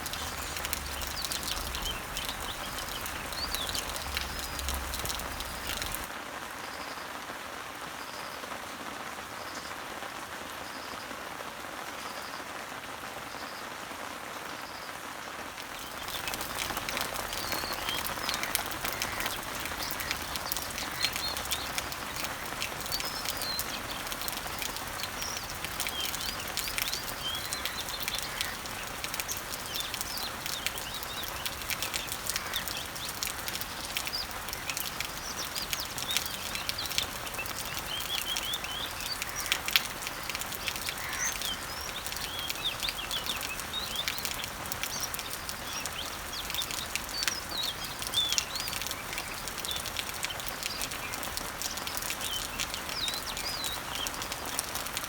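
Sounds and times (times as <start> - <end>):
birds chirping: 0.0 - 6.1, 15.6 - 55.0
rain falling on leaves: 0.0 - 55.0.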